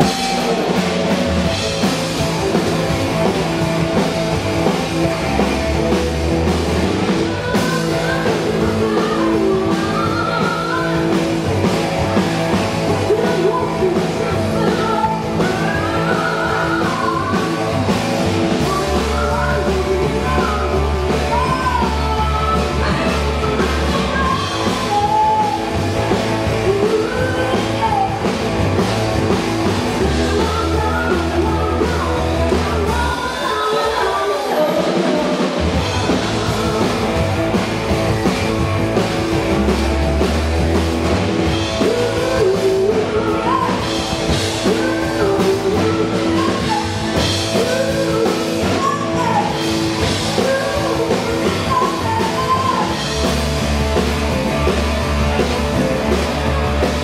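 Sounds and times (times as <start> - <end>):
woman singing lead: 0.0 - 56.9
drum kit: 0.0 - 57.0
electric bass: 0.0 - 57.0
electric guitar: 0.0 - 57.0.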